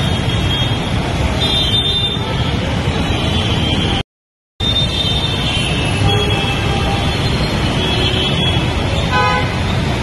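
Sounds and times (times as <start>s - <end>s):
road traffic rumbling: 0.0s - 4.0s, 4.6s - 10.0s.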